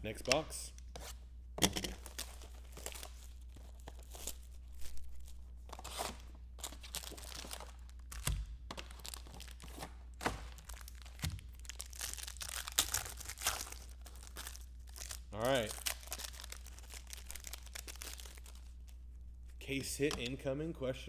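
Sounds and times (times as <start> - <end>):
packaging tearing and crinkling: 1.7 - 19.0.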